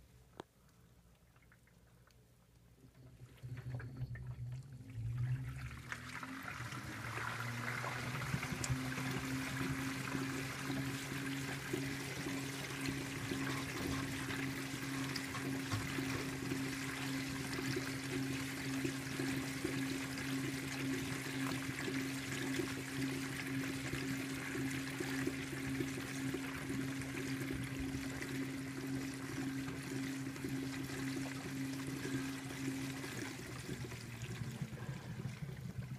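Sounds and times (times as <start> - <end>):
low motor hum: 0.0 - 35.9
water pouring into washer: 2.9 - 35.9.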